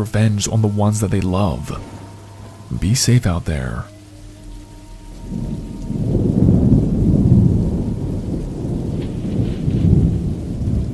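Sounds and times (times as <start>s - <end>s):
steady rain: 0.0s - 10.9s
thunder rumbling: 0.0s - 10.9s.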